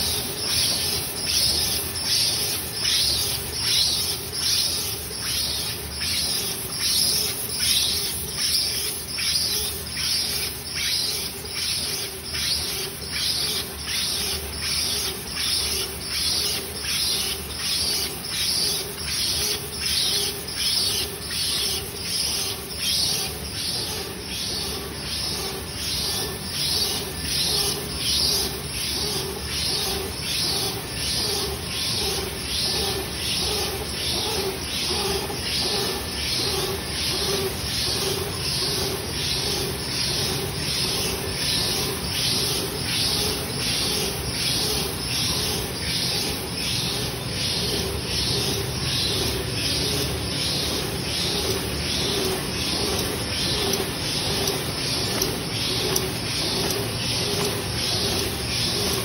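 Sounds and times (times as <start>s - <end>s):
short hissing machine strokes: 0.0s - 59.0s
steady machine hum: 0.0s - 59.0s.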